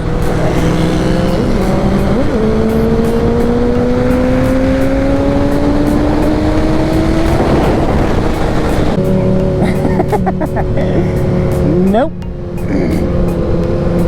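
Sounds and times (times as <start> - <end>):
motorcycle engine accelerating: 0.0 - 14.0
wind rushing over microphone: 0.0 - 14.0.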